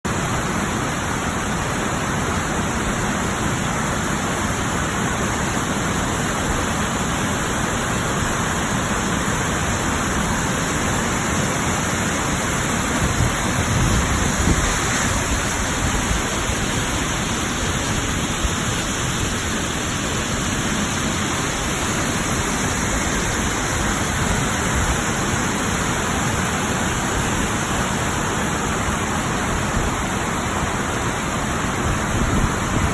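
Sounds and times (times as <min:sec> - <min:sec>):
waterfall rushing: 0:00.1 - 0:32.9.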